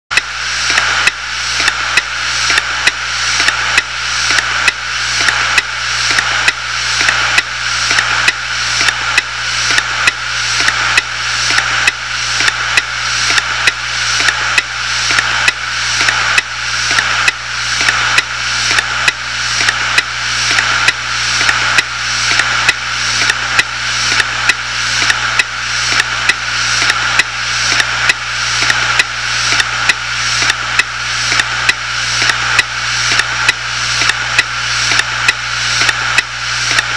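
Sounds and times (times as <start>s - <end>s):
hard drive platters whirring: 0.1s - 36.9s
hard drive clicking: 0.2s - 36.9s.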